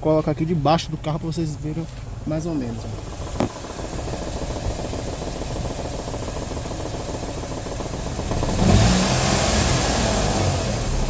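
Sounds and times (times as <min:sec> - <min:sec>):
car engine idling with rattle: 0:00.0 - 0:11.0.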